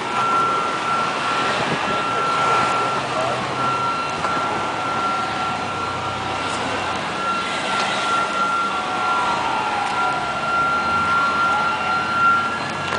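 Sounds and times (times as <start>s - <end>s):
fire truck engines running: 0.0s - 12.9s.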